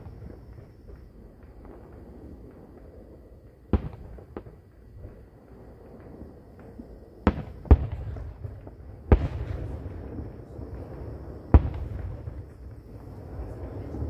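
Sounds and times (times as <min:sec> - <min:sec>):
distant firework booms: 0:00.0 - 0:14.0.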